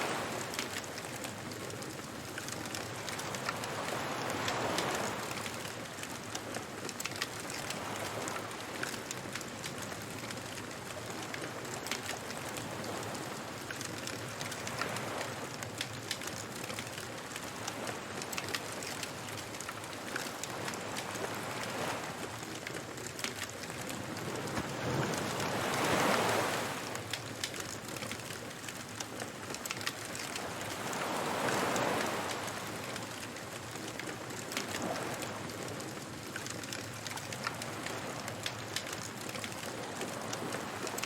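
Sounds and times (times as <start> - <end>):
waves washing in: 0.0 - 41.0
wood fire crackling and popping: 0.2 - 13.2, 13.8 - 32.3, 33.6 - 41.0.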